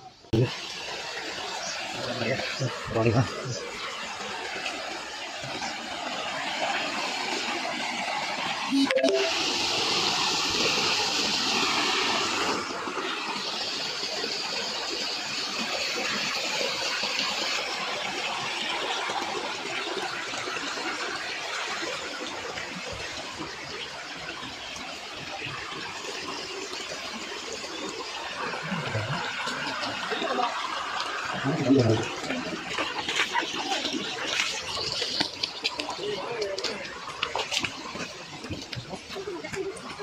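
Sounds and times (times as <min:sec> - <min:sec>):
stream splashing over rocks: 0:00.3 - 0:40.0.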